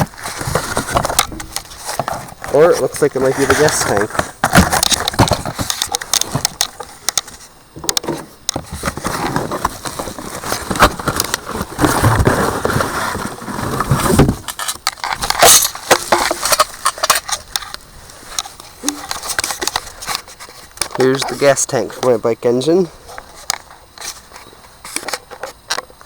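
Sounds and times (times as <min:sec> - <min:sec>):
packaging rustling and crinkling: 0:00.0 - 0:21.4.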